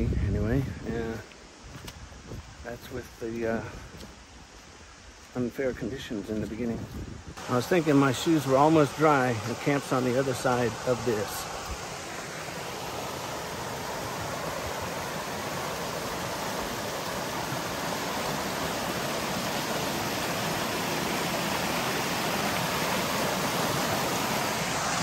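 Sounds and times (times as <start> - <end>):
rushing mountain stream: 0.0 - 25.0.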